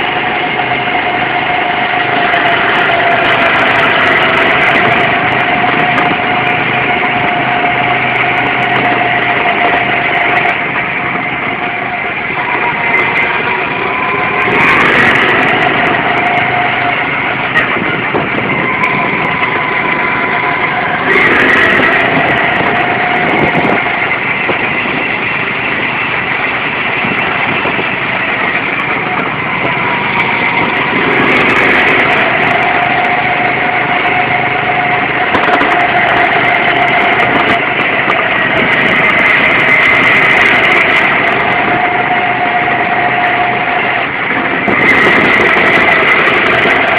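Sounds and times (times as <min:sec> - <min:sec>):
go-kart engine revving: 0:00.0 - 0:46.9.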